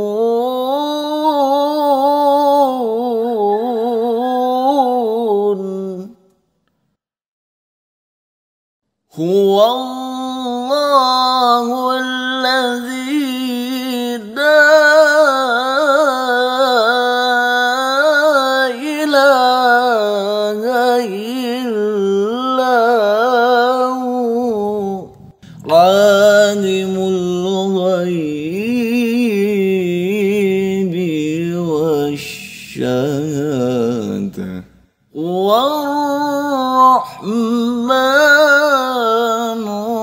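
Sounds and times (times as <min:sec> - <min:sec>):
man reciting in melodic style: 0:00.0 - 0:06.3, 0:09.1 - 0:40.0.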